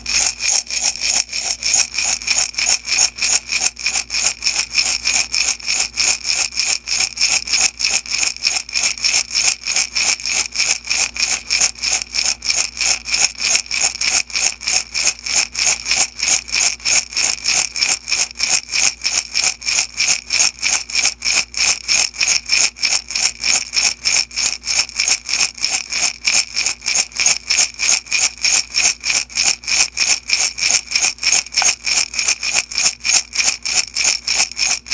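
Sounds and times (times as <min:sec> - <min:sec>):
beads rattling in glass jar: 0:00.0 - 0:34.9.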